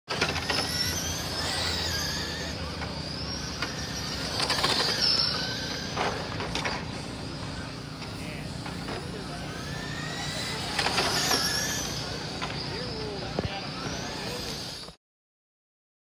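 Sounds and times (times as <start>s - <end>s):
radio-controlled truck motors whining: 0.1s - 15.0s.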